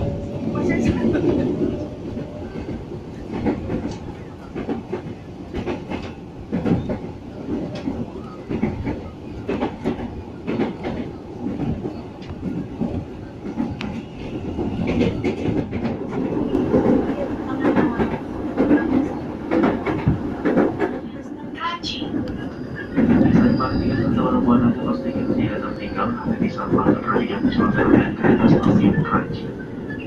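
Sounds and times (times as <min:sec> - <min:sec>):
train interior rumble: 0:00.0 - 0:30.0.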